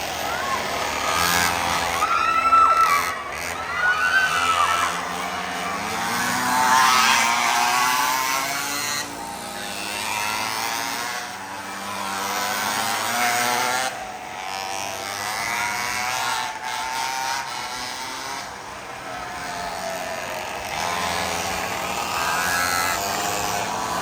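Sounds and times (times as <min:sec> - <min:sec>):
mini bike engines whining past: 0:00.0 - 0:24.0.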